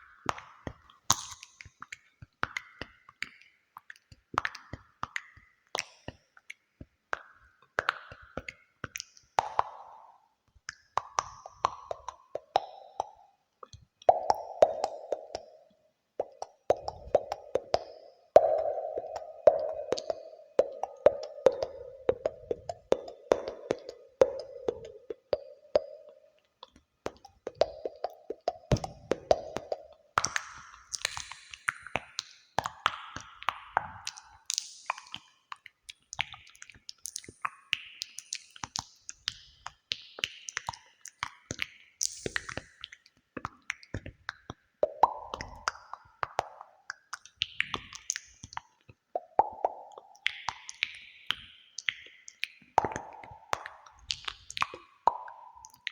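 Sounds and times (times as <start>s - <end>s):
mouth clicks and pops with echo: 0.0s - 55.9s.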